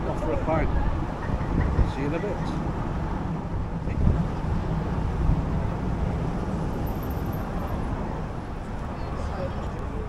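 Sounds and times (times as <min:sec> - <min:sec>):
tyre and road noise: 0:00.0 - 0:10.0
wind buffeting microphone: 0:00.0 - 0:10.0.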